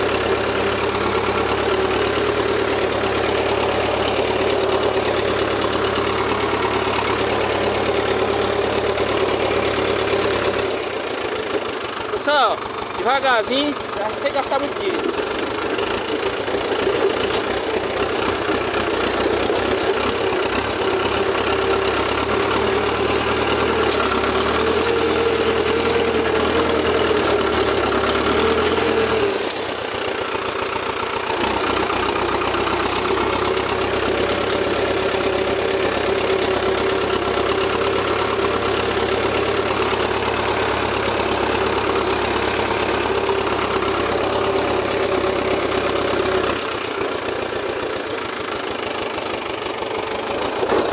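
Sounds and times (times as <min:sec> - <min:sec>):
blade pushing through brush: 0:00.0 - 0:11.7, 0:13.8 - 0:48.4, 0:50.4 - 0:50.9
tractor diesel engine under load: 0:00.0 - 0:50.9.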